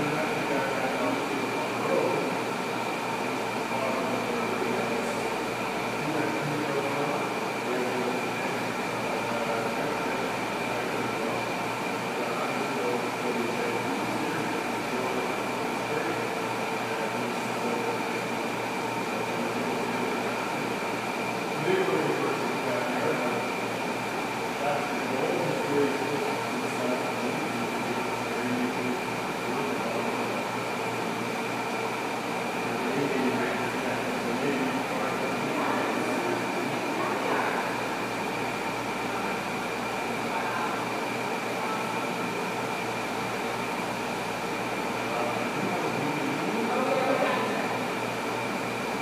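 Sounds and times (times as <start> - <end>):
machinery hum with high whine: 0.0 - 49.0.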